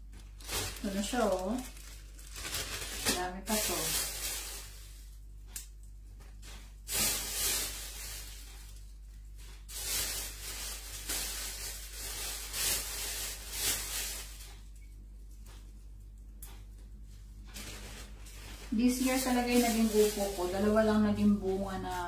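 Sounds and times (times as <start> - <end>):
plastic bag rustling: 0.0 - 5.2, 6.2 - 14.7, 17.4 - 22.0.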